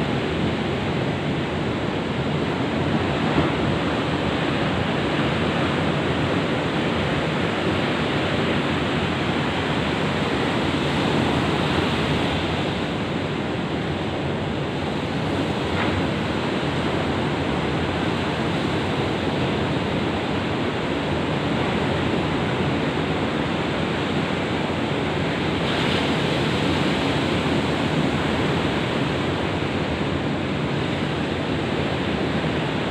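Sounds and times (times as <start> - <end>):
waves breaking on shore: 0.0 - 32.9.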